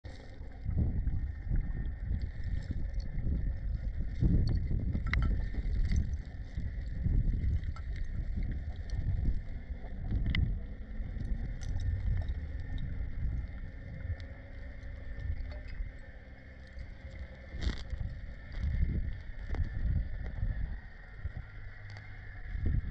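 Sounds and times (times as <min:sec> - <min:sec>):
crackle: 0:00.0 - 0:22.9.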